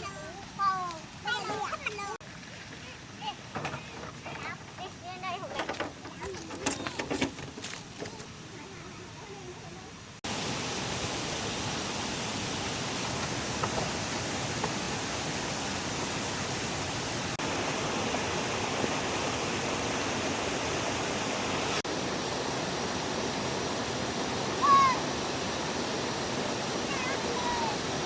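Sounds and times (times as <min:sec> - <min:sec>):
stream water rushing: 0:04.6 - 0:28.0.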